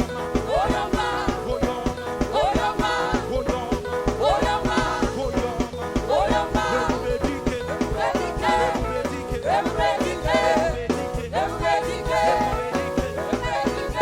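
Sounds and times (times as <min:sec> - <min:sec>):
band playing a danceable beat: 0:00.0 - 0:14.0
person singing: 0:00.0 - 0:14.0.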